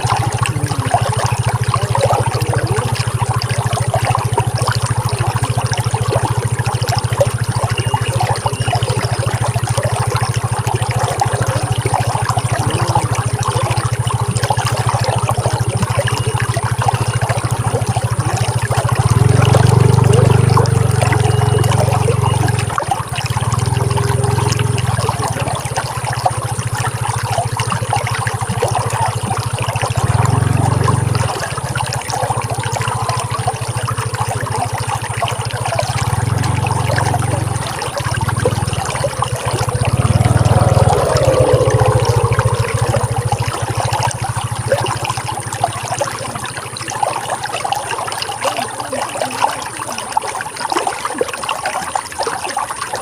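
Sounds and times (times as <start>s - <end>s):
running water splashing: 0.0s - 53.0s.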